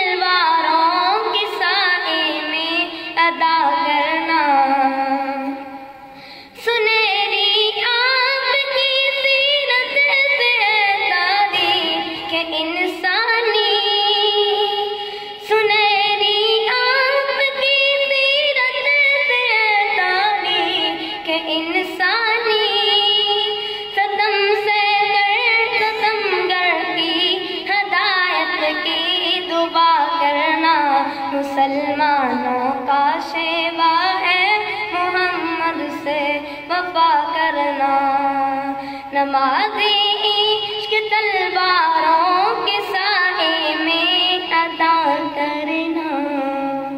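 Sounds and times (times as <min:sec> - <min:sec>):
boy singing unaccompanied: 0:00.0 - 0:05.7, 0:06.6 - 0:46.9.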